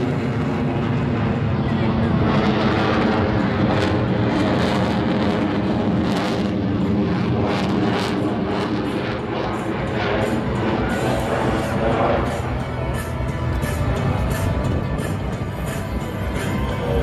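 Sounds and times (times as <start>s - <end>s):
fighter jet engine crackling: 0.0s - 17.0s.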